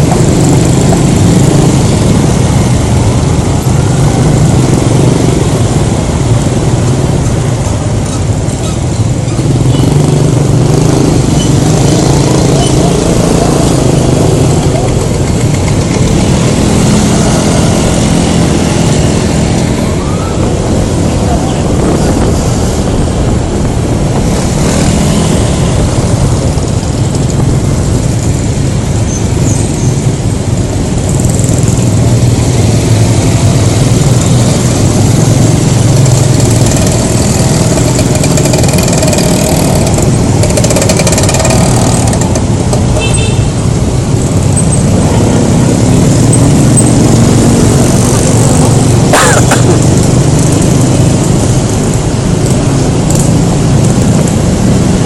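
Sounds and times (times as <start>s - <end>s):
scooter engine: 0.0s - 29.1s, 29.7s - 55.0s
passing vehicles: 0.0s - 55.0s
wind and road rush: 0.0s - 55.0s.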